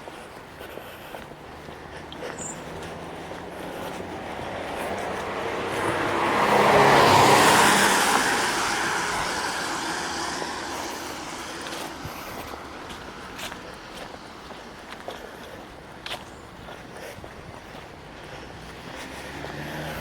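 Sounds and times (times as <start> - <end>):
car passing by: 1.4 - 20.0.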